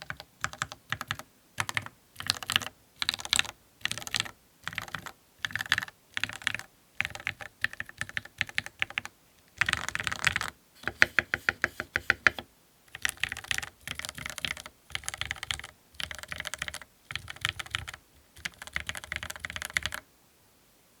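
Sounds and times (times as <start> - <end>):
mechanical keyboard typing: 0.0 - 20.0.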